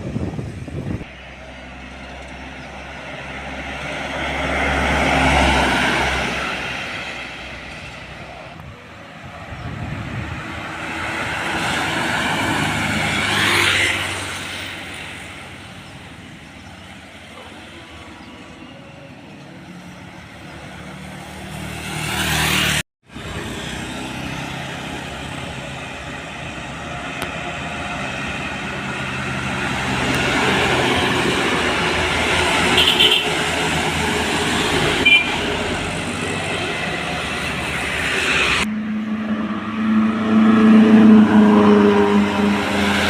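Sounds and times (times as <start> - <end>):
heavy trucks passing: 0.0 - 43.0.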